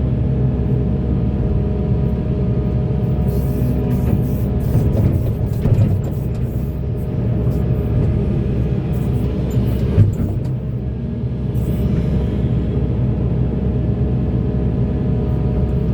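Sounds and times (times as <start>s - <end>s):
excavator diesel engine: 0.0s - 15.9s.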